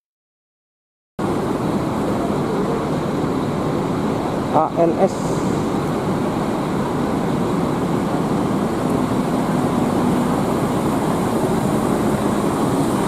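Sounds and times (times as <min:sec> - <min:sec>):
bus diesel engine running: 0:01.2 - 0:13.0.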